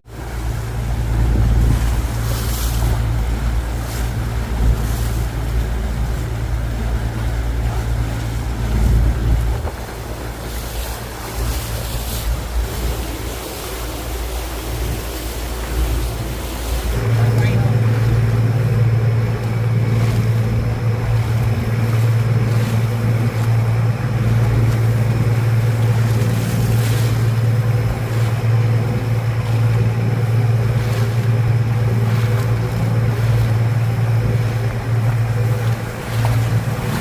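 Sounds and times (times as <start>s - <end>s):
boat engine droning: 0.0s - 37.0s
water noise: 0.0s - 37.0s
wind: 0.0s - 37.0s.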